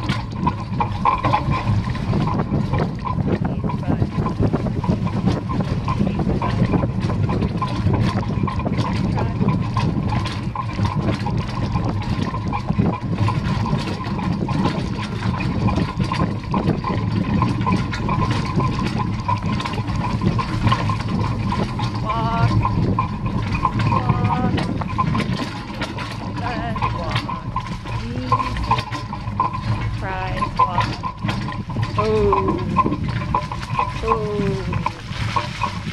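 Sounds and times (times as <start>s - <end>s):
carriage rattling and knocking: 0.0s - 35.9s
wagon wheels rumbling on dirt track: 0.0s - 35.9s.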